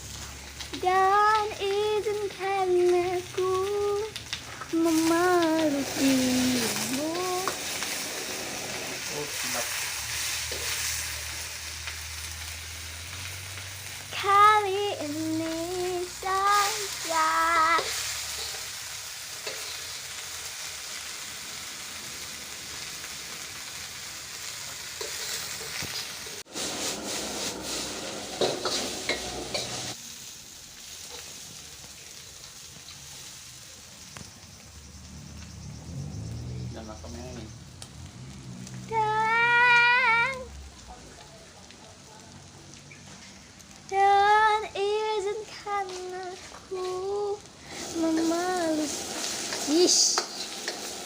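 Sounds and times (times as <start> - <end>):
food sizzling in hot oil: 0.0 - 51.0.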